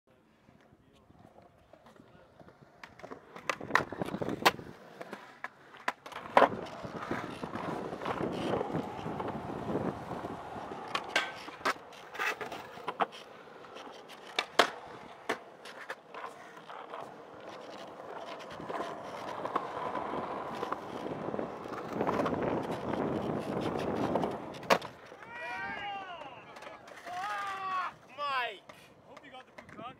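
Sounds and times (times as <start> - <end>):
skateboard wheels rolling on concrete: 0.1 - 29.9
skateboard clacks on ground: 0.5 - 29.9.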